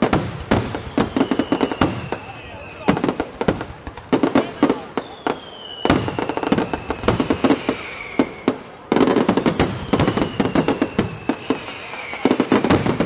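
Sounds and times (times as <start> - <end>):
falling firework whistle: 0.0 - 3.5, 4.2 - 13.0
fireworks bangs and crackling: 0.0 - 13.0.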